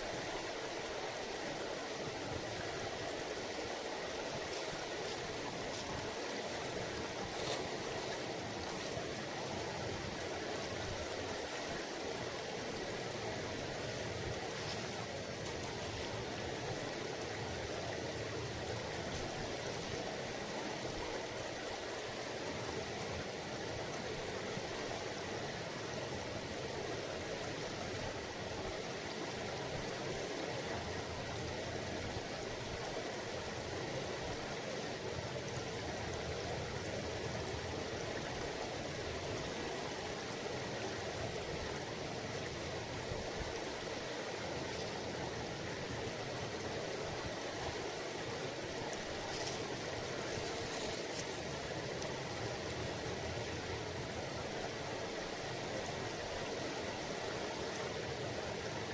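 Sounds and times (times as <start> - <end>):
river babbling over rocks: 0.0 - 58.9.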